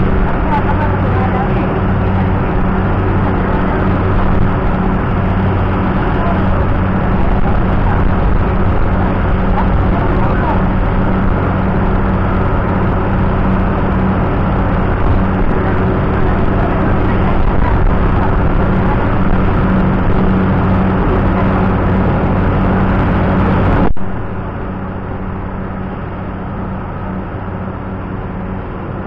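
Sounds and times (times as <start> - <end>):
loud machinery drone: 0.0 - 29.0.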